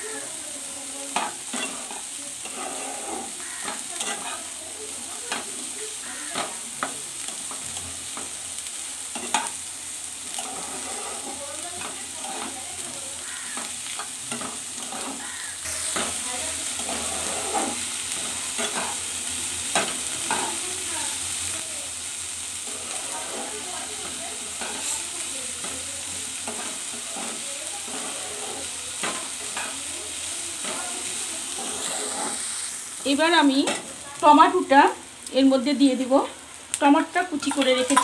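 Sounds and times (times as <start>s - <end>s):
onions sizzling in oil: 0.0s - 38.0s
spatula scraping pan: 1.1s - 8.4s, 9.1s - 19.1s, 19.7s - 20.8s, 22.6s - 34.0s, 37.2s - 38.0s.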